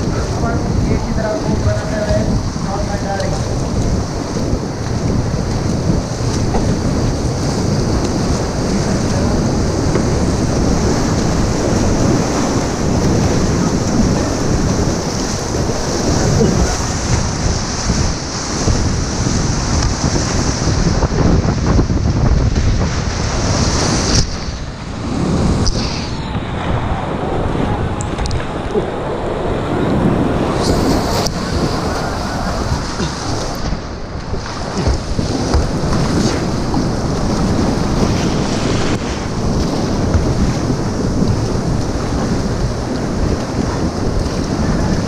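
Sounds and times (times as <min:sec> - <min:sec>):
rapids rushing and splashing: 0:00.0 - 0:45.0
wind buffeting microphone: 0:00.0 - 0:45.0.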